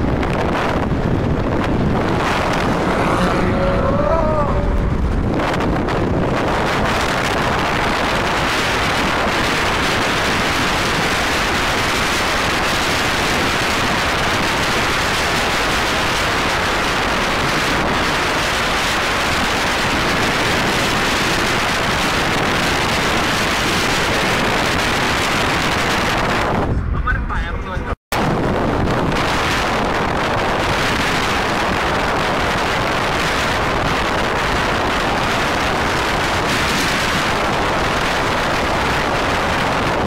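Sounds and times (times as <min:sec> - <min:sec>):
car road noise: 0:00.0 - 0:40.0
wind buffeting microphone: 0:00.0 - 0:40.0.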